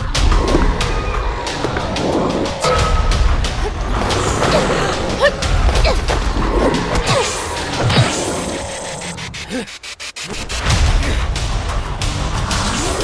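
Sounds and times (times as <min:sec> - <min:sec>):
film music score: 0:00.0 - 0:13.0.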